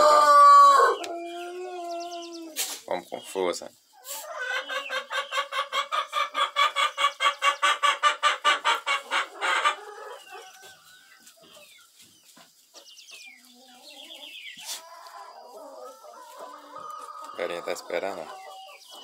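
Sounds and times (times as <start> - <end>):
chicken clucking: 0.0 - 19.0.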